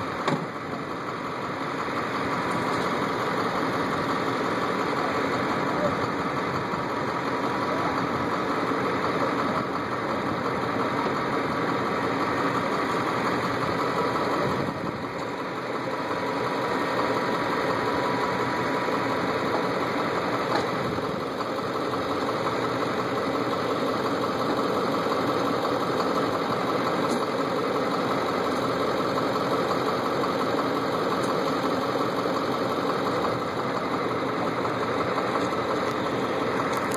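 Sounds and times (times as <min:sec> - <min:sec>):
harvest machinery engine running: 0:00.0 - 0:36.9.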